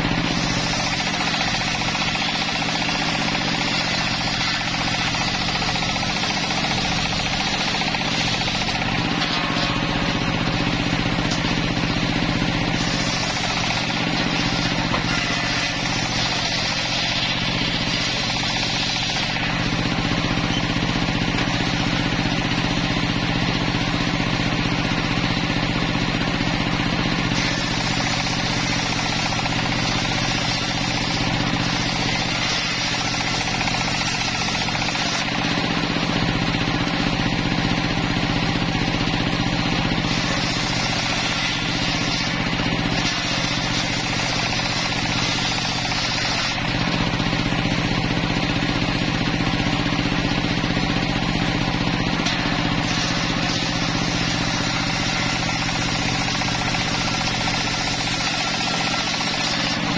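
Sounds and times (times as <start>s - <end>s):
machine hum: 0.0s - 38.4s, 39.4s - 59.9s
circular saw blade ripping timber: 0.0s - 59.9s.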